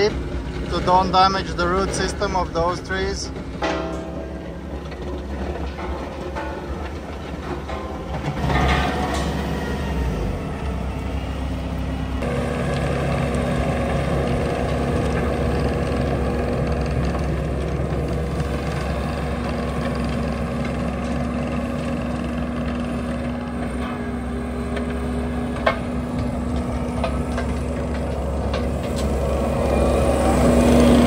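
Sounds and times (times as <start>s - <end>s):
loader engine and hydraulic hum: 0.0s - 31.0s.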